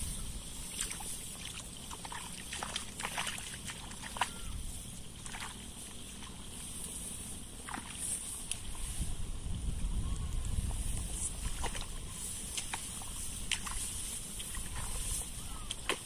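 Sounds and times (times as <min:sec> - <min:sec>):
wading through wet field: 0:00.0 - 0:16.0.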